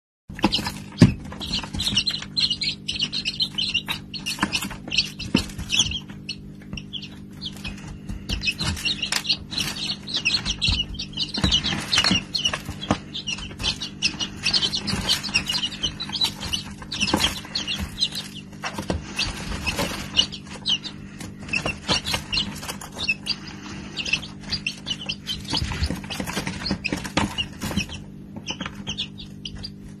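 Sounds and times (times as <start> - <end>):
chicks peeping: 0.3 - 30.0
steady low hum: 0.3 - 30.0.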